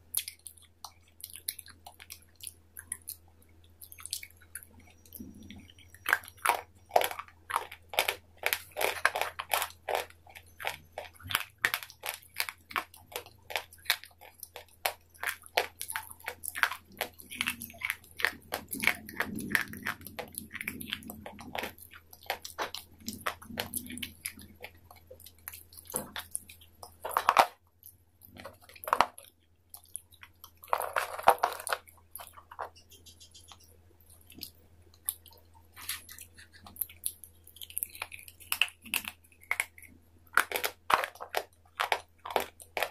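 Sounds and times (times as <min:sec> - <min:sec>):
crunching dry sticks: 0:06.0 - 0:42.9.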